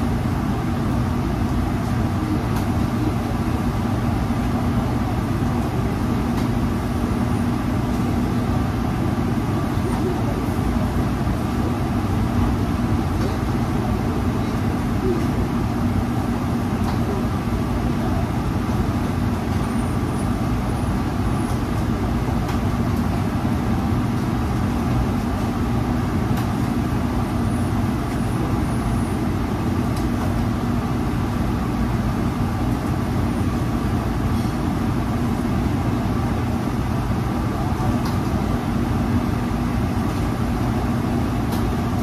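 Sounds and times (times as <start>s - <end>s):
exhaust hood fan running: 0.0s - 42.0s.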